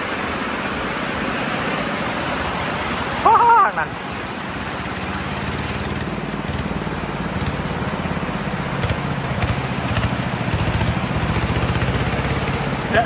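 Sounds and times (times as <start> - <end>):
rain on a metal roof: 0.0 - 13.0
walking tractor engine running: 0.0 - 13.0.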